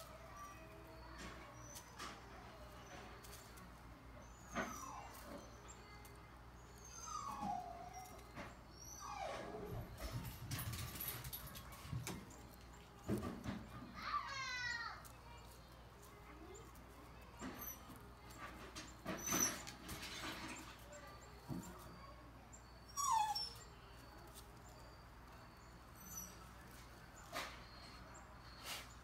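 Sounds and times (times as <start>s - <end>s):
animal whines and squeaks: 0.0s - 29.0s
faint high chirps: 0.0s - 29.0s.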